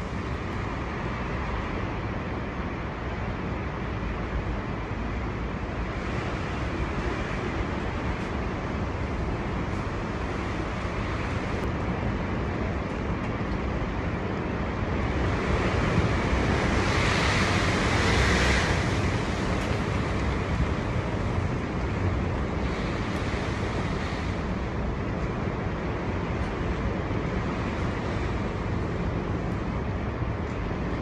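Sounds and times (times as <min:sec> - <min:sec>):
strong wind gusting: 0:00.0 - 0:31.0
wind rumble on microphone: 0:00.0 - 0:31.0.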